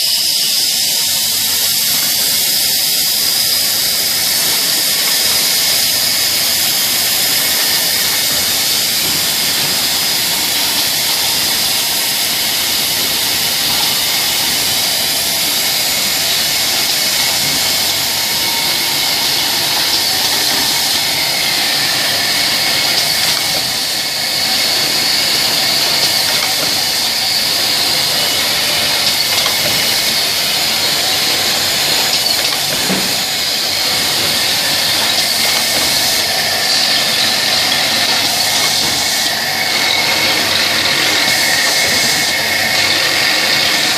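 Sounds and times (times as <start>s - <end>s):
high steady whine: 0.0s - 43.9s
machine hiss: 0.0s - 43.9s.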